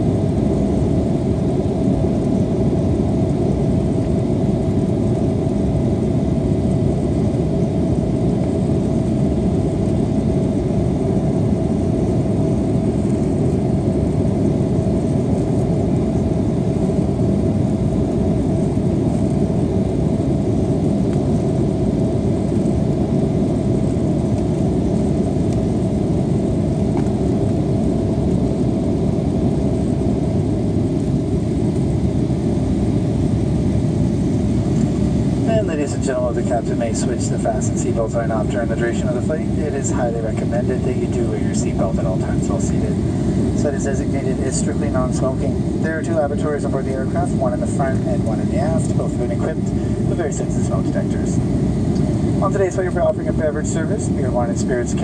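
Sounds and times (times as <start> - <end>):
jet engine rumble: 0.0 - 55.0
mid-pitched hum: 0.0 - 55.0.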